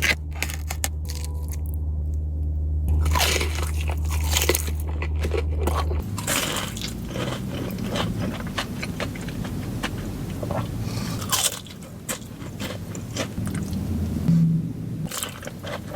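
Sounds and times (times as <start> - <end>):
crunchy chewing of fried chicken: 0.0 - 1.7, 3.0 - 14.1, 15.1 - 15.9.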